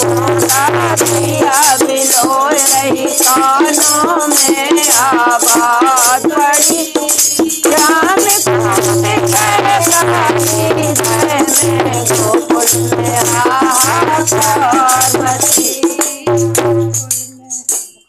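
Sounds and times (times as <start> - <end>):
rattling percussion: 0.0 - 18.0
rhythmic hand-clapping: 0.0 - 18.0
women singing together: 0.0 - 18.0.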